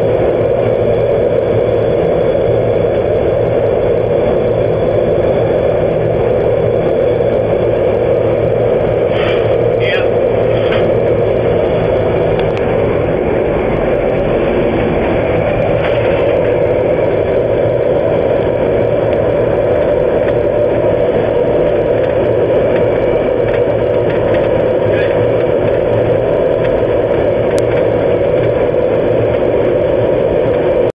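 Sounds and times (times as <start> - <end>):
furnace flames rushing: 0.0 - 30.9.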